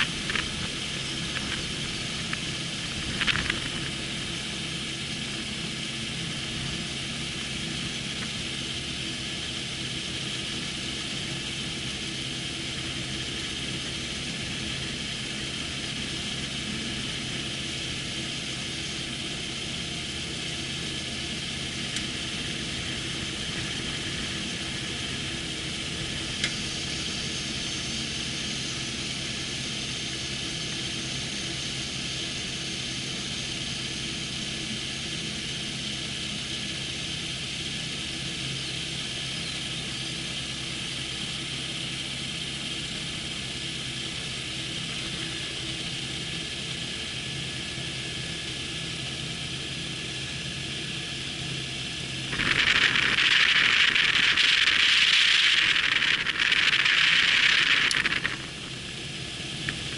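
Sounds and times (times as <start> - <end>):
engine and propeller running: 0.0 - 59.9.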